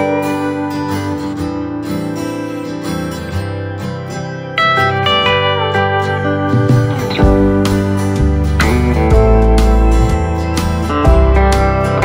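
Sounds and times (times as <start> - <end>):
instrumental guitar music: 0.0 - 12.0.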